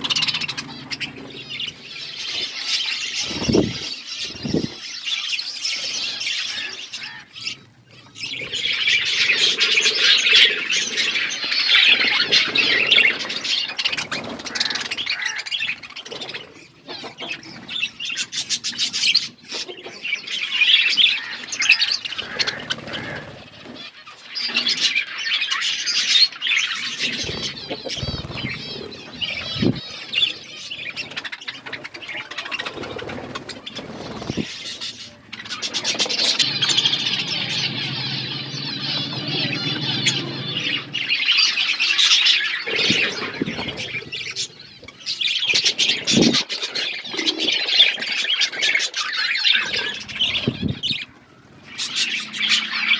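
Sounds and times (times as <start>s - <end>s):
budgerigars chirping: 0.0s - 52.9s.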